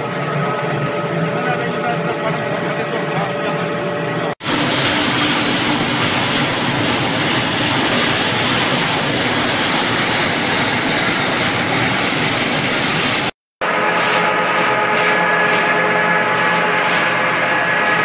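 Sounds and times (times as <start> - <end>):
factory machinery din: 0.0 - 18.0.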